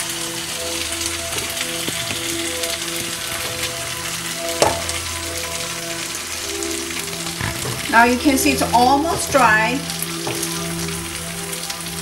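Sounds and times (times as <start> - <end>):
dumplings sizzling in a skillet: 0.0 - 12.0.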